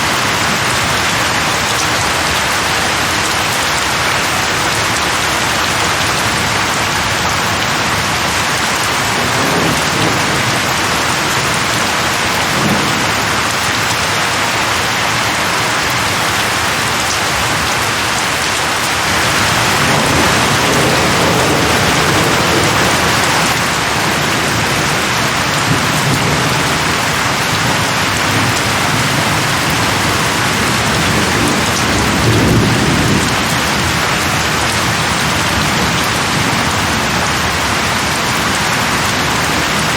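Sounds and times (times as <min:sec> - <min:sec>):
rain hissing: 0:00.0 - 0:39.9
thunder rolling: 0:04.2 - 0:39.9.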